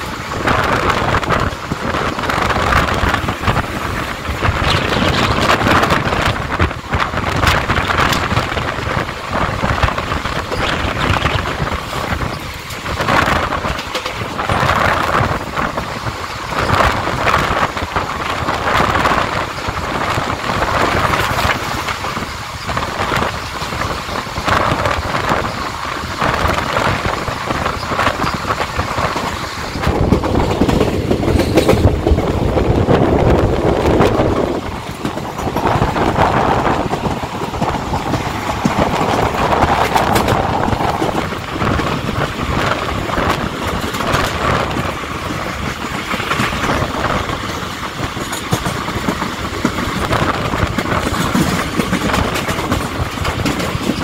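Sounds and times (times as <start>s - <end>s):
train clatter: 0.0s - 54.0s
train wheels rumbling on rail: 0.0s - 54.0s.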